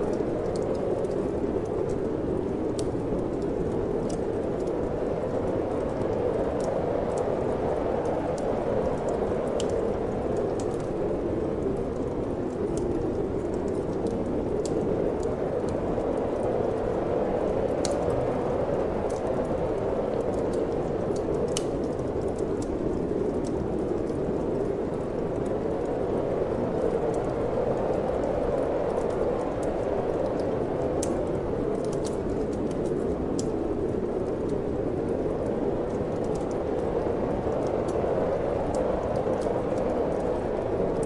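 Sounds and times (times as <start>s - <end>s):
wind: 0.0s - 41.0s
wood fire crackling: 0.0s - 41.0s.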